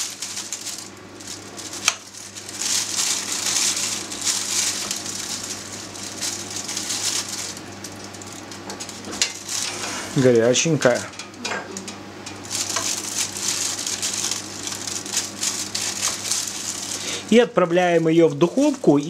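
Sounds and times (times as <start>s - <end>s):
plastic bag crinkling: 0.0s - 11.1s, 11.8s - 19.0s
hot juices sizzling: 0.0s - 17.4s.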